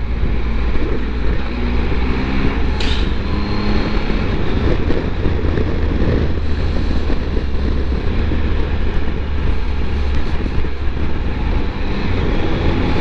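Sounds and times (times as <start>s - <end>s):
motorcycle engine cruising: 0.0s - 13.0s
wind rush on microphone: 0.0s - 13.0s.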